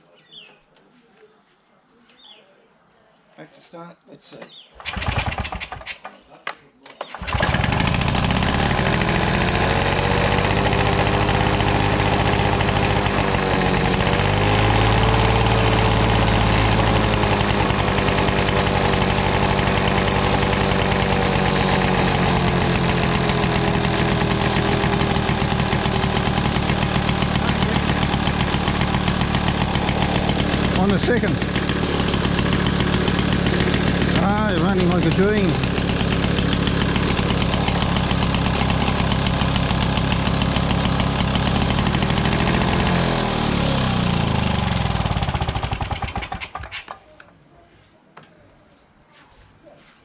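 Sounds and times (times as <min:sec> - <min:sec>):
lawnmower engine starting and running: 0:04.7 - 0:06.1, 0:07.0 - 0:47.0
starter rope pull: 0:04.8 - 0:06.2, 0:07.0 - 0:47.0.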